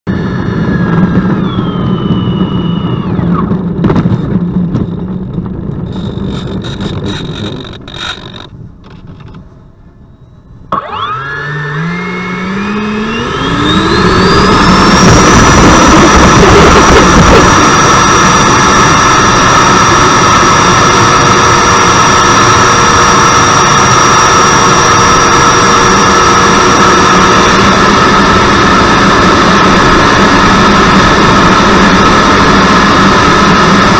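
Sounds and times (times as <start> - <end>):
electric ducted fan whine: 0.1 - 33.9.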